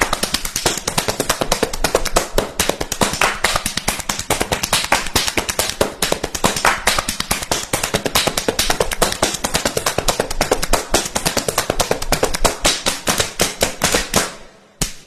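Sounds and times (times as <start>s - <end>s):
fast sharp clicks: 0.0s - 15.0s.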